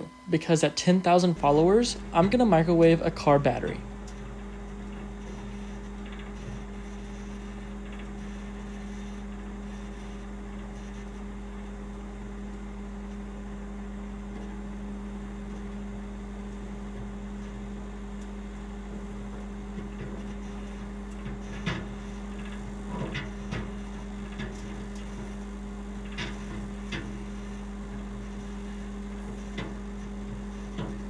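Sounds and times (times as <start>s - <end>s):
microwave oven humming: 0.0s - 31.0s.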